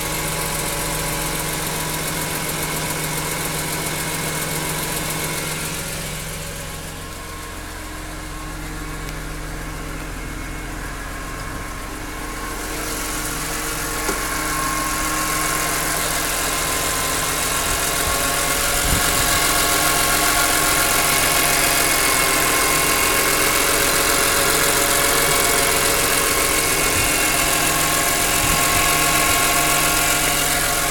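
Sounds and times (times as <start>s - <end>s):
car engine idling with ticking: 0.0s - 30.9s.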